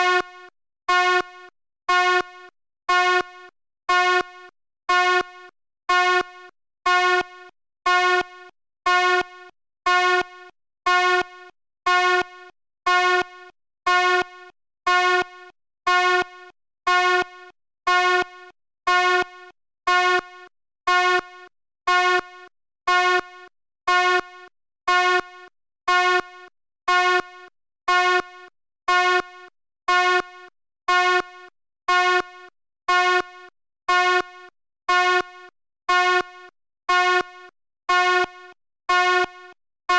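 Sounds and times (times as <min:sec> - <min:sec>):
fire alarm blasts: 0:00.0 - 0:39.6.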